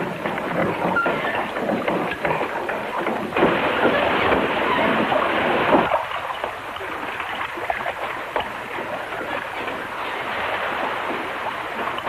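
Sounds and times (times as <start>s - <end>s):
clatter of mill gearing: 0.0s - 12.0s
water rushing at mill wheel: 0.0s - 12.0s.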